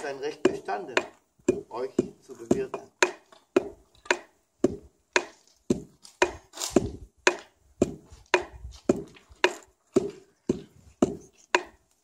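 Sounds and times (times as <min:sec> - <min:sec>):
pestle pounding in mortar: 0:00.0 - 0:11.8.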